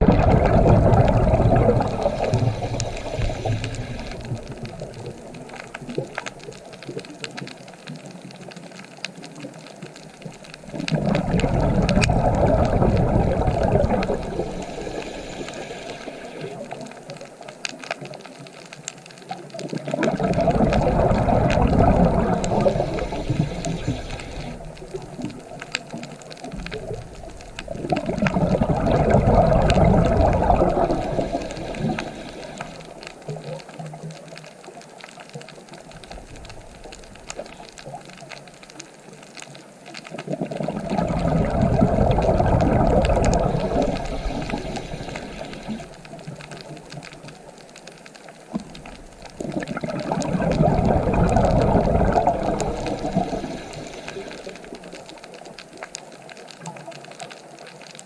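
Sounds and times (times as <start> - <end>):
underwater rumbling bubbling surges: 0.0 - 8.5, 9.1 - 18.4, 19.2 - 58.0
faint crackling clicks: 0.0 - 58.0.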